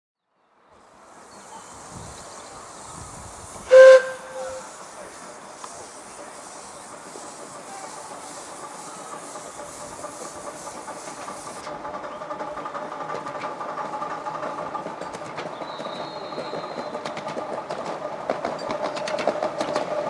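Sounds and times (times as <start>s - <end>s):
steam hissing: 0.8s - 20.0s
wheels clicking on track: 1.4s - 20.0s.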